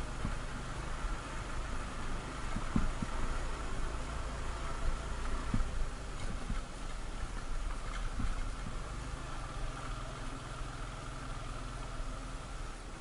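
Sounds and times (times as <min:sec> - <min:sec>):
thumps of bike over bumps: 0:00.0 - 0:11.5
small motorcycle engine: 0:00.0 - 0:12.8.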